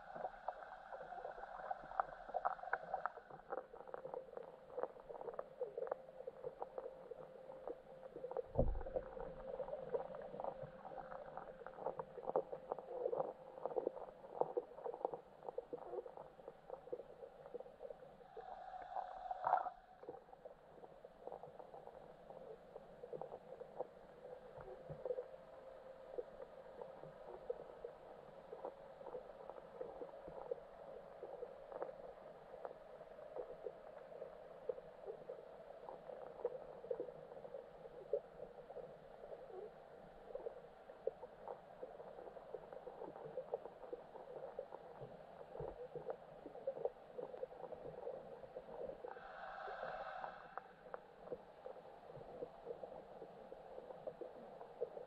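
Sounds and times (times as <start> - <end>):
low underwater hum: 0.0 - 55.0
small irregular clicks: 0.0 - 55.0.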